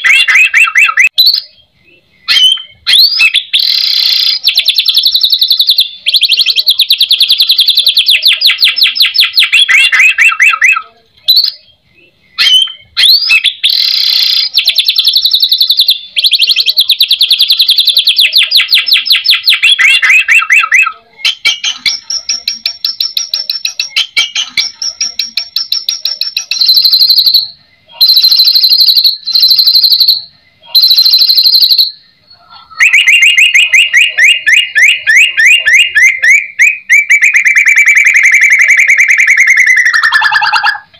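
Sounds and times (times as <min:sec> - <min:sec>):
bird singing fast trills: 0:00.0 - 0:40.9.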